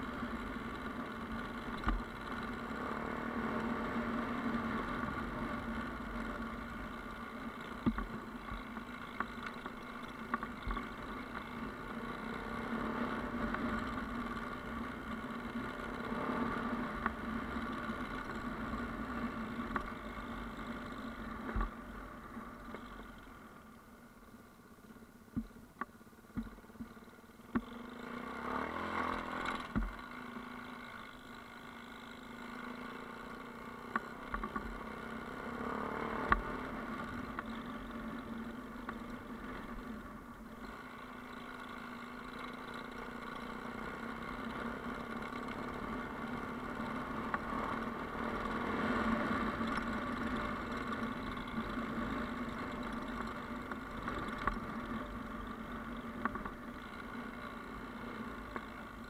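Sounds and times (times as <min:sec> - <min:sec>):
off-road vehicle engine: 0:00.0 - 0:59.0.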